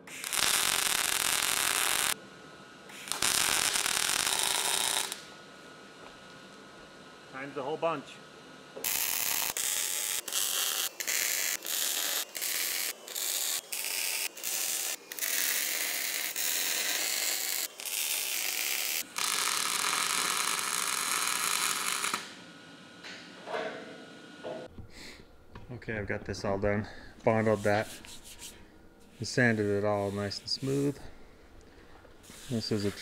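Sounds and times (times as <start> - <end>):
welder arc crackling and hissing: 0.0 - 22.6, 25.0 - 33.0.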